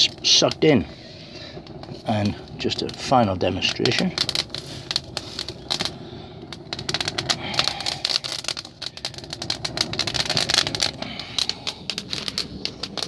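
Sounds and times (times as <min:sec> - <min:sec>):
steady low rush: 0:00.0 - 0:13.0
twigs crackling in fire: 0:00.0 - 0:13.0.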